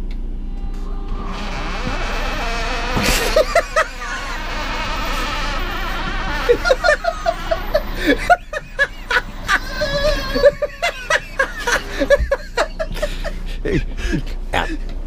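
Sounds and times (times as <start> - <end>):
fuel pump buzzing: 0.6 - 13.3.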